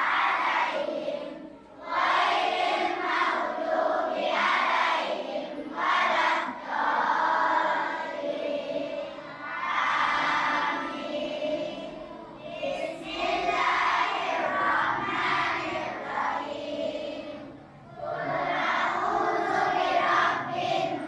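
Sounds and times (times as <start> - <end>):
children chanting in unison: 0.0 - 21.0.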